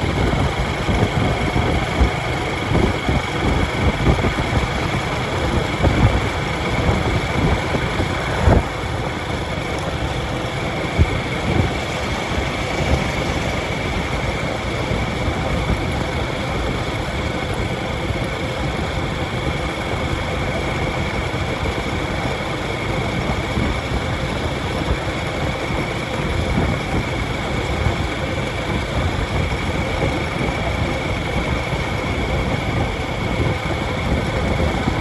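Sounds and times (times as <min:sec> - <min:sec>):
vehicle engine and road noise: 0:00.0 - 0:35.0
wind buffeting microphone: 0:00.0 - 0:35.0.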